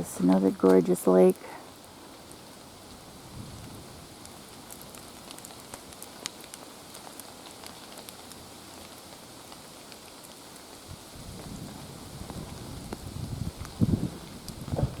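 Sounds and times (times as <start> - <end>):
rain patter: 0.0 - 15.0
raindrops ticking: 0.0 - 15.0.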